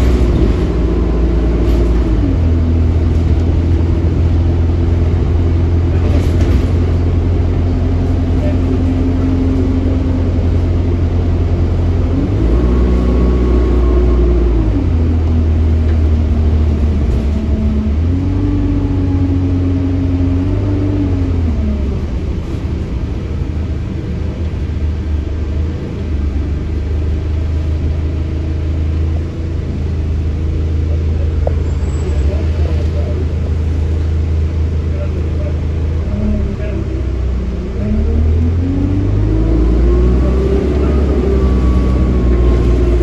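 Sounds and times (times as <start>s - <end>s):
bus engine accelerating: 0.0s - 43.0s.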